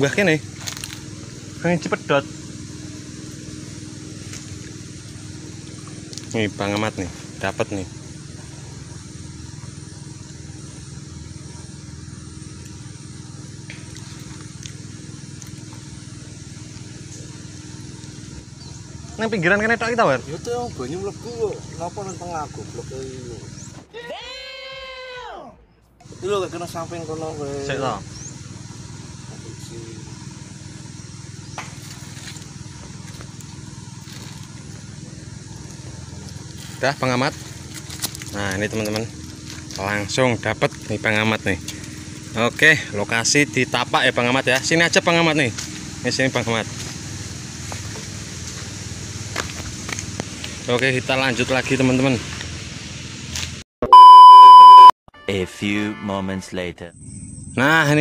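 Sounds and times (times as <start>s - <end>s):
low motor hum: 0.0s - 23.9s, 26.0s - 54.9s
small engine droning: 0.0s - 23.9s, 26.0s - 54.8s, 56.9s - 58.0s.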